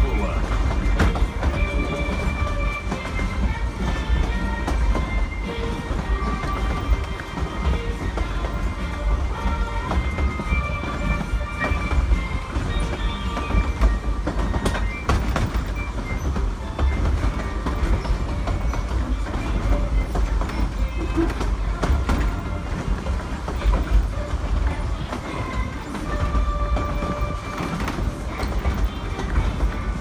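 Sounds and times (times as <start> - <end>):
train cars rumbling and clattering: 0.0 - 30.0.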